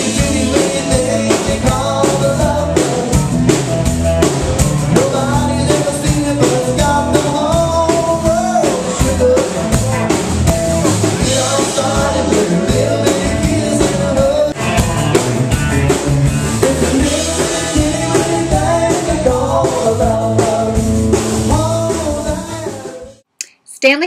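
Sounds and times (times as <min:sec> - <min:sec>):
acoustic and electric guitars: 0:00.0 - 0:24.0
drum kit: 0:00.0 - 0:24.0.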